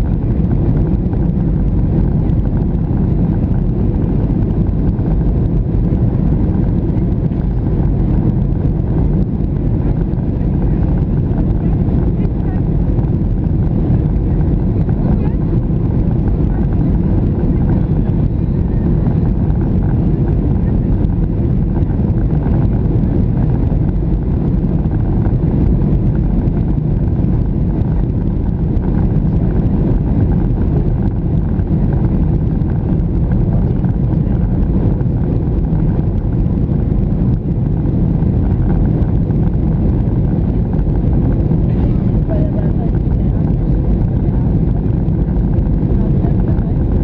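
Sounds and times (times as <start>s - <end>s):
airflow over fuselage: 0.0s - 47.0s
airliner cabin engine rumble: 0.0s - 47.0s.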